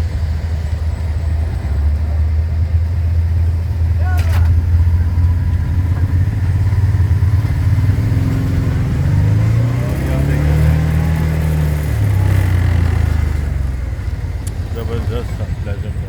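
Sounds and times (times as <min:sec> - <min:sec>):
dune buggy engine running under load: 0:00.0 - 0:16.0.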